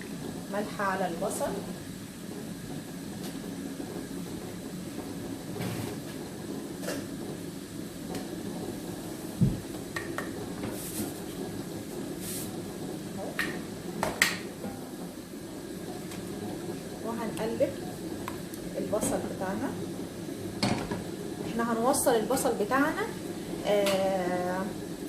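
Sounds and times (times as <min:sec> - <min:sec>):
onions frying: 0:00.0 - 0:25.0.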